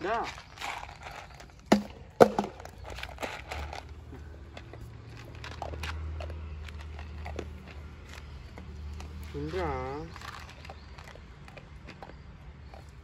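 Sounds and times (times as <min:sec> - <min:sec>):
dog crunching dry kibble: 0:00.0 - 0:13.0.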